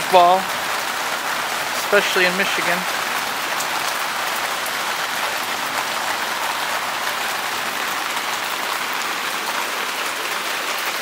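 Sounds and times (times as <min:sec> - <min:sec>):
rain spattering on hard surfaces: 0:00.0 - 0:11.0.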